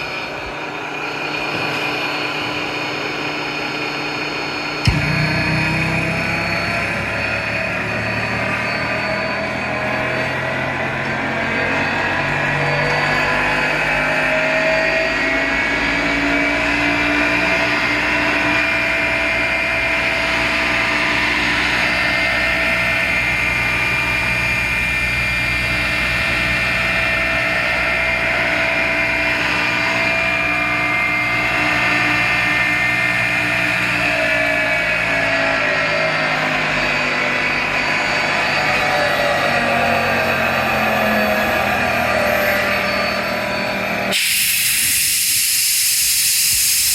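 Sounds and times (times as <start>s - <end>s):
air compressor hum and whine: 0.0s - 46.9s.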